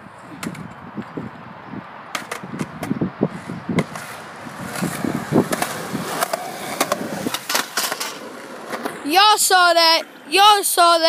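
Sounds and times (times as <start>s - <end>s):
skateboard wheels rolling on concrete: 0.0s - 11.0s
skateboard clacks: 0.4s - 1.2s, 2.1s - 10.3s.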